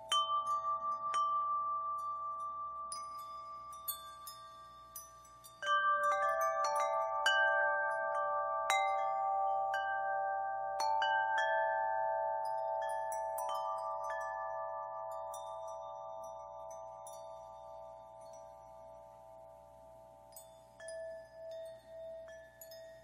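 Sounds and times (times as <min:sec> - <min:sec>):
wind chimes ringing: 0:00.0 - 0:23.0.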